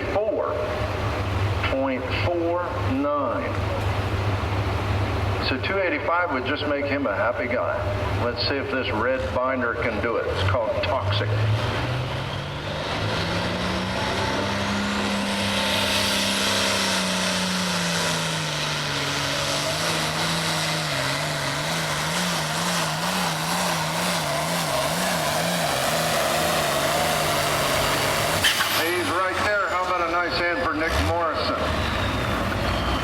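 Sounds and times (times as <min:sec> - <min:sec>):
tractor diesel engine at full throttle: 0:00.0 - 0:33.0.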